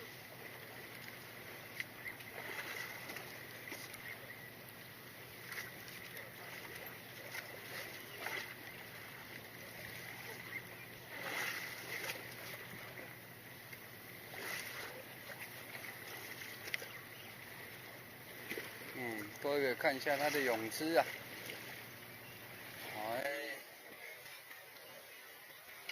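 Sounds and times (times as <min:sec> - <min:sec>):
water lapping against boat hull: 0:00.0 - 0:25.9
water splashes: 0:00.0 - 0:25.9.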